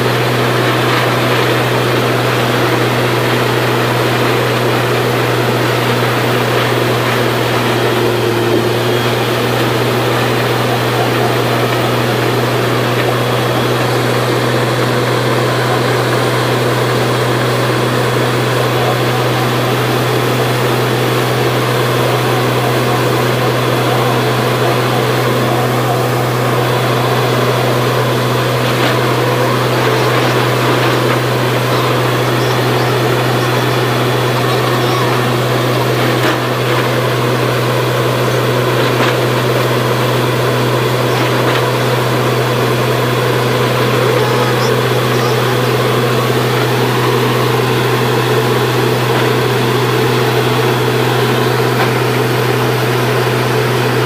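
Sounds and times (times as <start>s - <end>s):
drilling rig droning: 0.0s - 54.0s
muddy water flushing: 0.0s - 54.0s.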